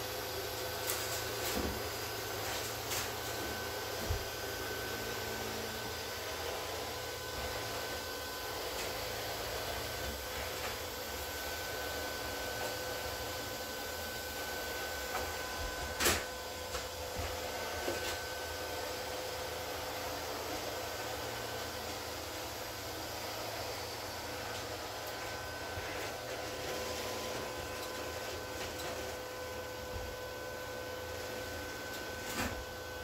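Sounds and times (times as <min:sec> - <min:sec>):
robot vacuum humming and whining: 0:00.0 - 0:33.0.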